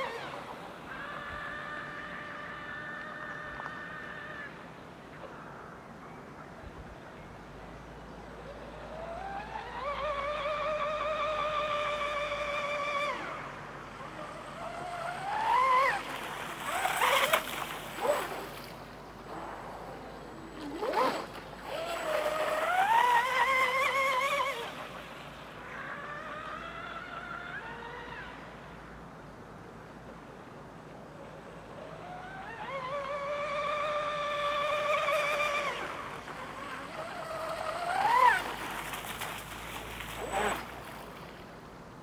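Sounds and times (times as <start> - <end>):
electric boat motor whining: 0.0 - 5.6, 8.0 - 42.0.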